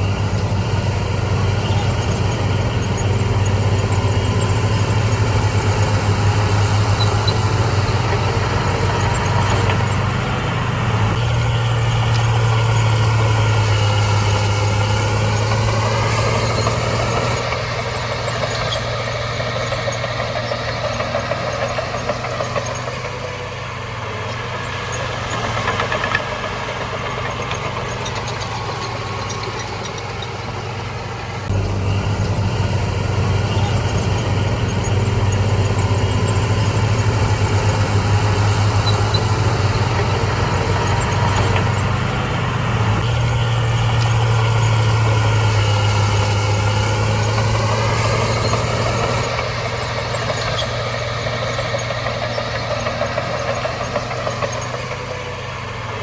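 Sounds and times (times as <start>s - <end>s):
diesel earthmoving machine engine: 0.0s - 56.0s.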